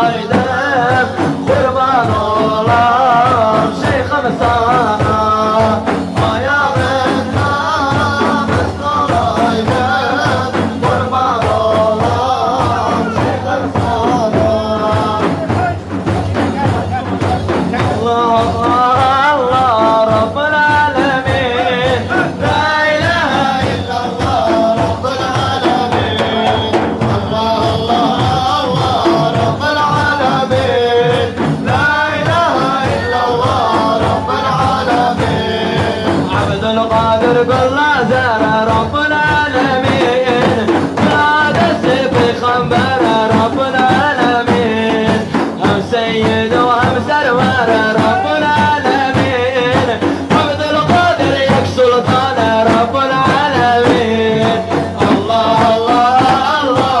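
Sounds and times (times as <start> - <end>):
frame drums beating: 0.0 - 57.0
men singing a hymn: 0.0 - 57.0.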